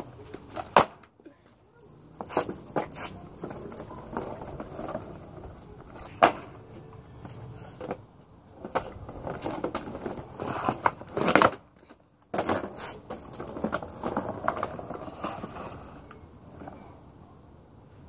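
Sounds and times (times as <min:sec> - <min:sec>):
scooter clattering on brick paving: 0:00.0 - 0:17.1.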